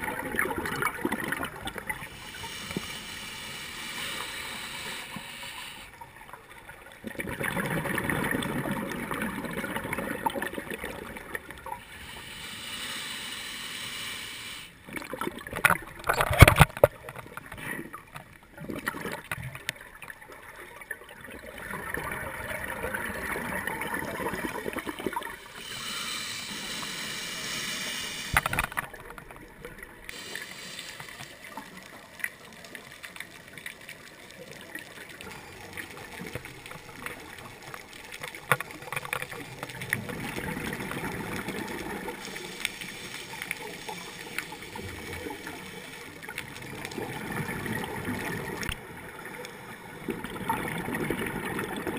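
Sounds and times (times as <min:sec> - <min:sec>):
underwater regulator bubbles gurgling: 0:00.0 - 0:51.9.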